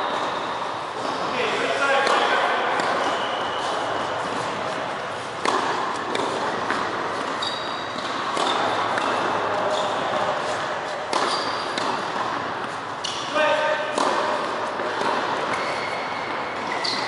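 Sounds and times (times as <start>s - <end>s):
balls bouncing on hard court: 0.0s - 17.0s
tennis balls hit by rackets: 0.0s - 17.0s.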